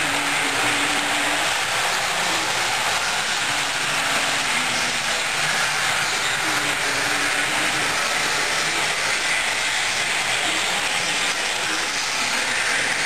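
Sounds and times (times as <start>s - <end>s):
model train rushing hiss: 0.0s - 13.0s.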